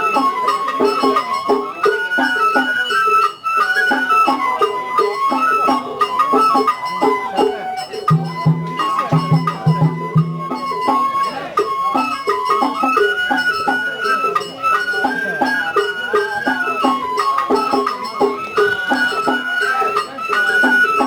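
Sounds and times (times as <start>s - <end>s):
high bamboo flute melody: 0.0s - 21.0s
percussion beats: 0.0s - 21.0s.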